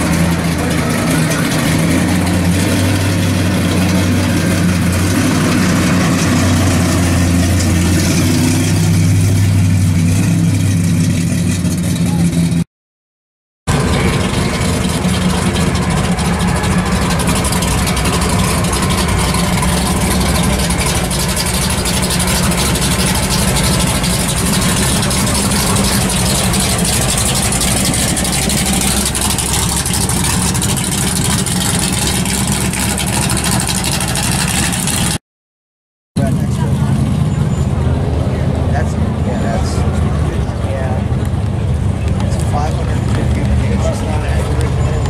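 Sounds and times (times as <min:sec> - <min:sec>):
car engine idling: 0:00.0 - 0:12.6, 0:13.7 - 0:35.2, 0:36.2 - 0:45.0.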